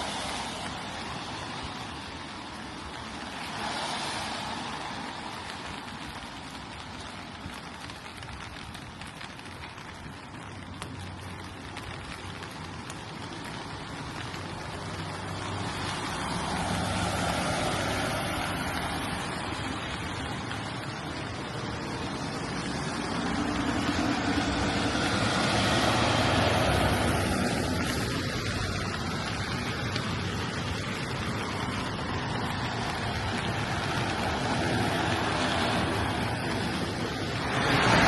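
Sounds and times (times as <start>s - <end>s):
rain hiss: 0.0s - 38.0s
vehicles passing on wet road: 0.0s - 38.0s.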